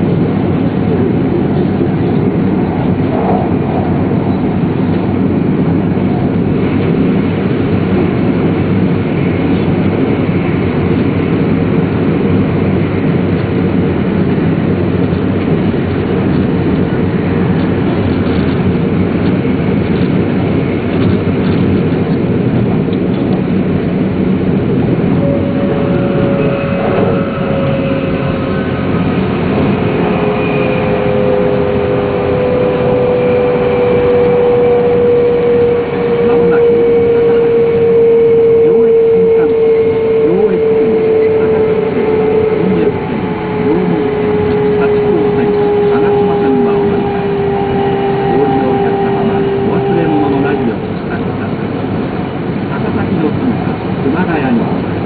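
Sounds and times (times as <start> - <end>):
train rumbling at high speed: 0.0 - 55.0.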